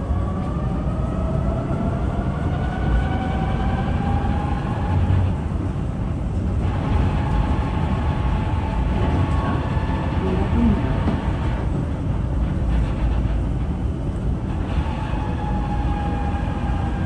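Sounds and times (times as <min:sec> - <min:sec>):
tram wheels rumbling on track: 0:00.0 - 0:17.0.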